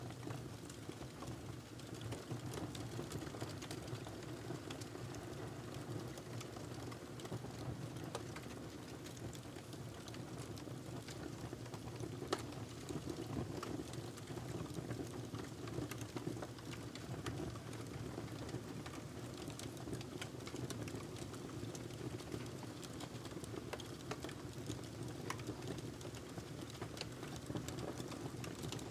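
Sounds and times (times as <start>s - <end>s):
wood fire crackling: 0.2s - 28.9s.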